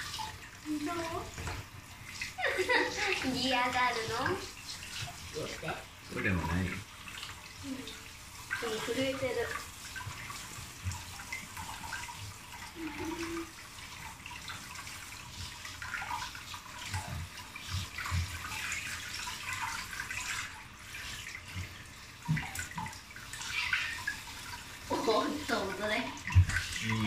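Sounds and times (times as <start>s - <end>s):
water splashing into plastic basin: 0.0s - 27.0s
water spraying from shower head: 0.0s - 27.0s.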